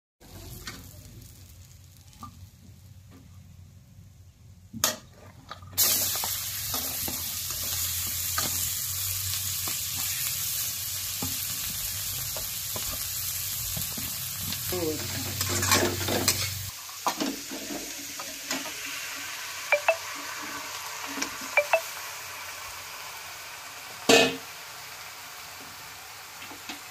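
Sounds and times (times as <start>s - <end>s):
oil sizzling: 0.2s - 4.0s, 4.8s - 26.9s.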